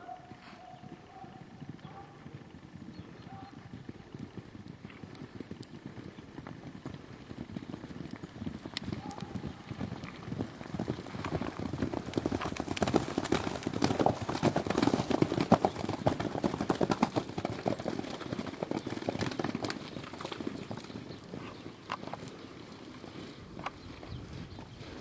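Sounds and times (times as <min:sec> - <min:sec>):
horses galloping over grass: 0:00.0 - 0:25.0.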